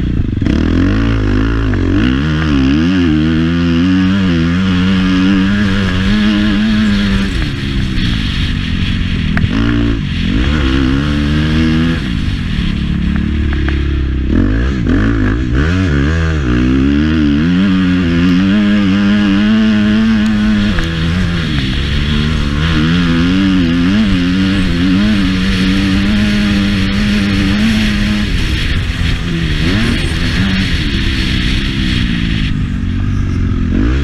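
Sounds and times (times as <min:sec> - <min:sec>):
motocross bike engine revving: 0:00.0 - 0:34.0.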